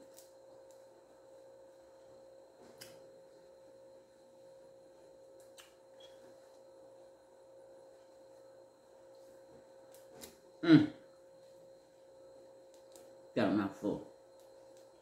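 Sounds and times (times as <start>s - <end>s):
faint hum with held tone: 0.0s - 15.0s.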